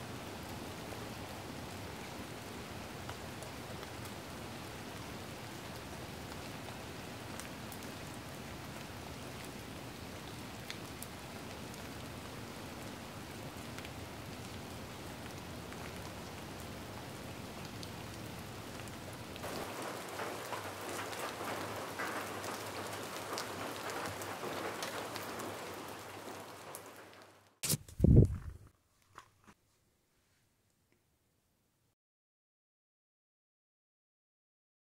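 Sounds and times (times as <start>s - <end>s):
steady rain: 0.0s - 28.2s.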